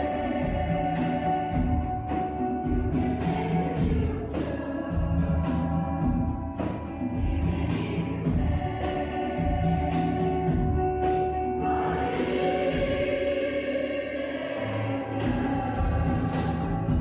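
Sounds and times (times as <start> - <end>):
accompaniment with steady beat: 0.0 - 14.0, 15.1 - 17.0
choir singing: 0.0 - 17.0.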